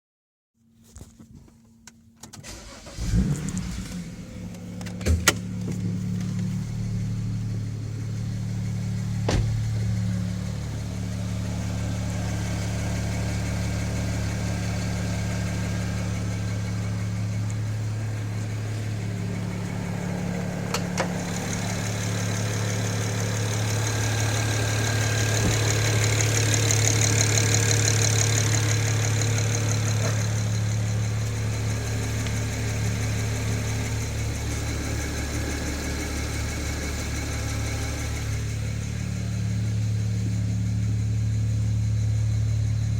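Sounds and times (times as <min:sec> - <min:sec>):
car engine starting and idling: 0:01.0 - 0:42.9.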